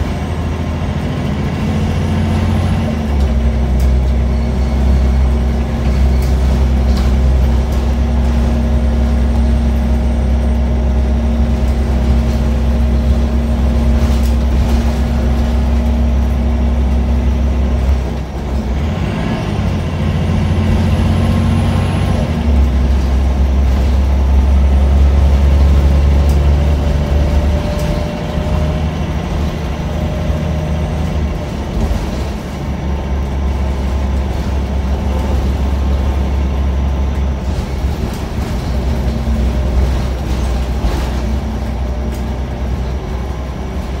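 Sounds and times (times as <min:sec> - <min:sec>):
bus engine drone: 0:00.0 - 0:44.0.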